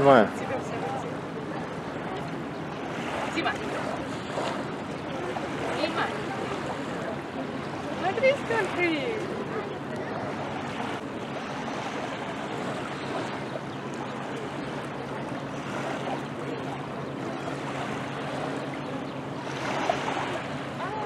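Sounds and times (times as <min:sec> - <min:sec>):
small waves lapping: 0:00.0 - 0:21.0
wind: 0:00.0 - 0:21.0.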